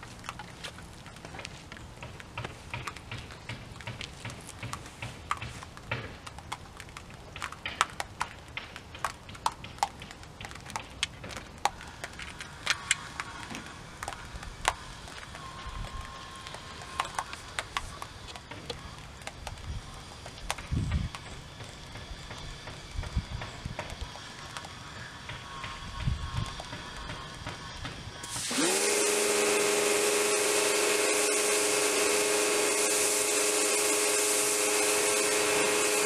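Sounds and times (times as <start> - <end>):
foam bubbles crackling: 0.0 - 36.0.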